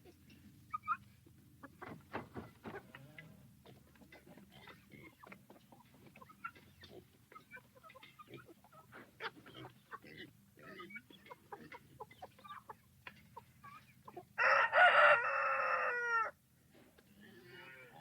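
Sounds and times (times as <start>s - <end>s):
chickens clucking: 0.0s - 16.2s.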